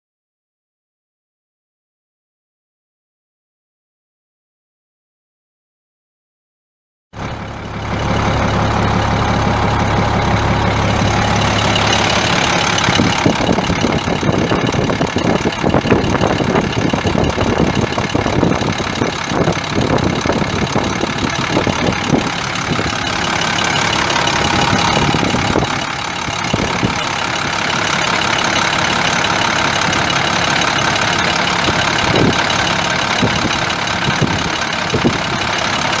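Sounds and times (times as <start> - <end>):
diesel engine idling: 7.2 - 36.0.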